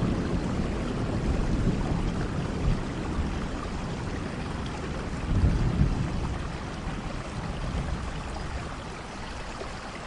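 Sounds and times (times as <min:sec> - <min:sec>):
distant thunder rumble: 0:00.0 - 0:09.0
steady rain: 0:00.0 - 0:10.0.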